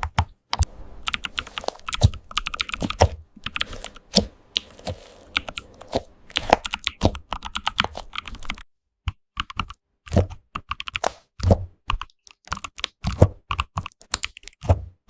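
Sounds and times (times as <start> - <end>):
computer keyboard typing: 0.0 - 11.1, 11.9 - 14.6.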